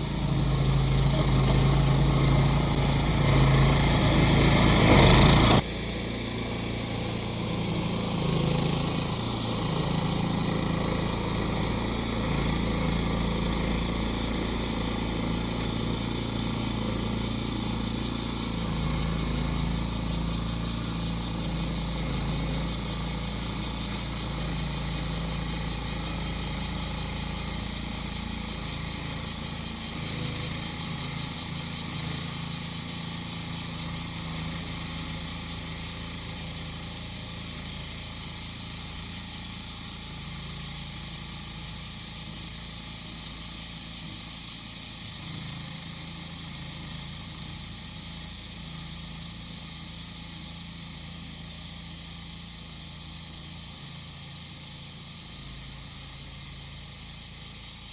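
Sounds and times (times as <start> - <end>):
cicadas buzzing: 0.0 - 57.9
lawn mower engine running: 0.0 - 57.9.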